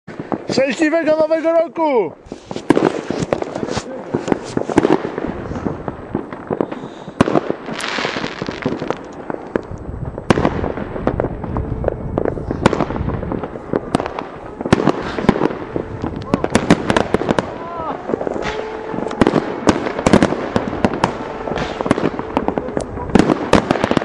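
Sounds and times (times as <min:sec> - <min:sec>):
fireworks bangs and crackles: 0:00.1 - 0:24.0
firework hissing rush: 0:02.2 - 0:24.0.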